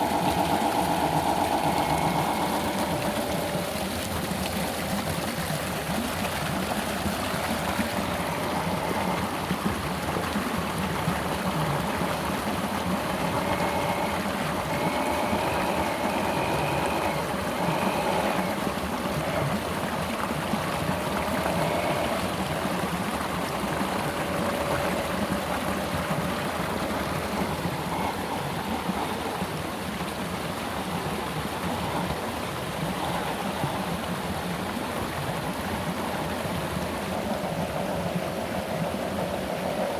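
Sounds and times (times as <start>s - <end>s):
small electric motor whining: 0.0s - 39.9s
water flowing over rocks: 0.0s - 39.9s.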